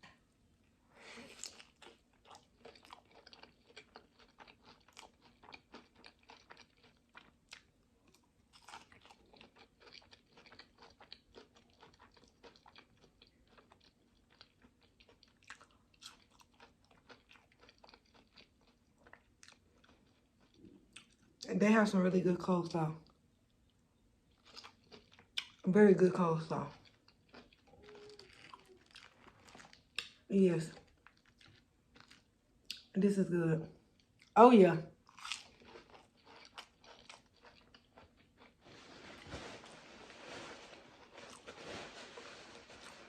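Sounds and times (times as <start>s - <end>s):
close chewing food: 1.3s - 21.4s, 23.0s - 25.7s, 26.5s - 32.9s, 35.0s - 43.0s.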